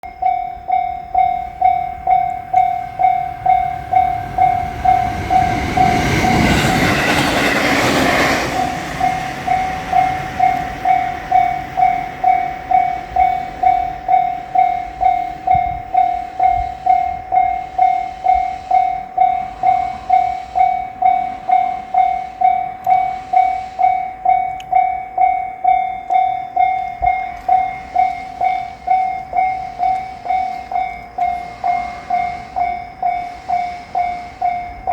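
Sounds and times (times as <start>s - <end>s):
level crossing bell dinging: 0.0s - 6.5s, 8.5s - 34.9s
train passing: 0.0s - 34.9s.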